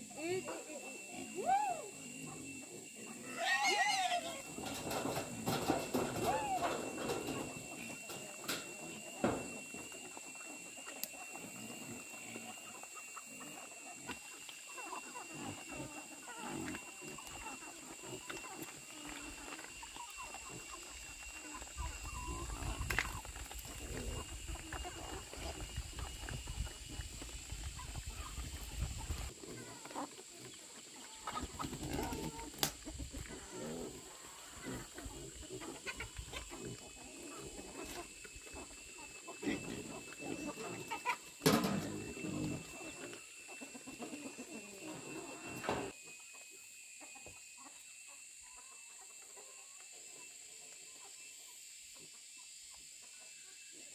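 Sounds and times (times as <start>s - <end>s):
farm animals calling: 0.0s - 46.0s
animals feeding: 0.0s - 51.2s.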